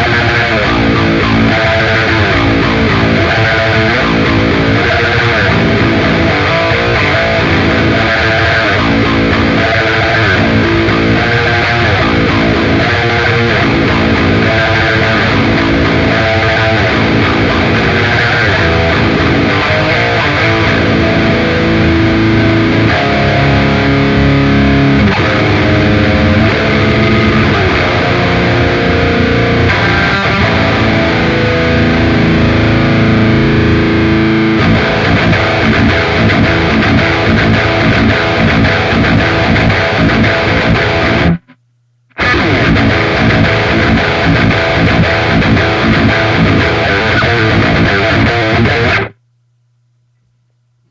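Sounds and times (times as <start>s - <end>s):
distorted electric guitar: 0.0s - 49.4s.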